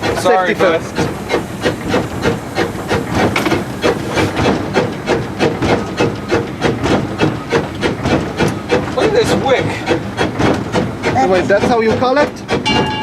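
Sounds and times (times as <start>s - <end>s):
steam locomotive exhaust beats: 0.0s - 13.0s.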